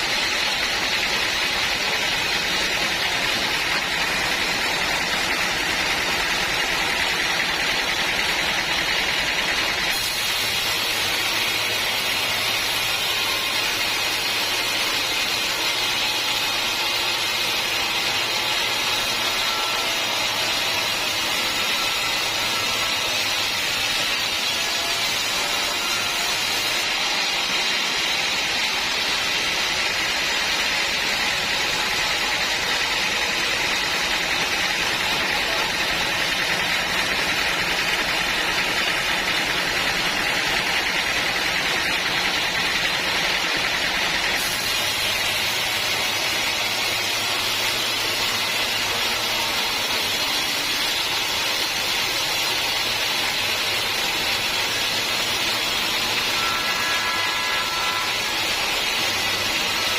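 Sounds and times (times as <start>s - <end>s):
saw cutting wood: 0.0s - 59.9s.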